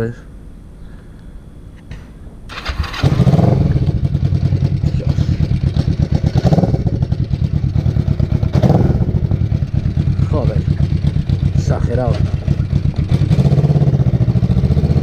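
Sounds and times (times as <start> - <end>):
motorcycle engine starting and idling: 2.5 - 15.0.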